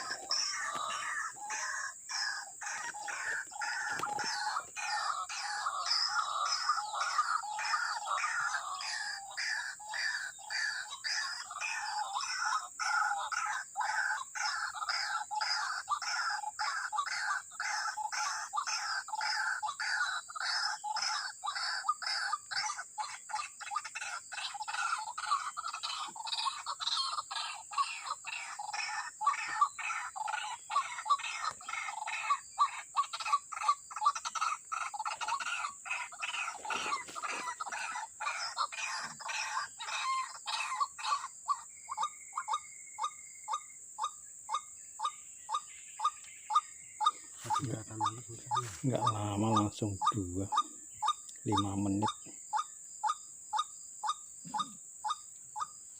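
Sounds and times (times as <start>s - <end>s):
waterhen calling: 0.0s - 44.7s, 45.5s - 55.7s.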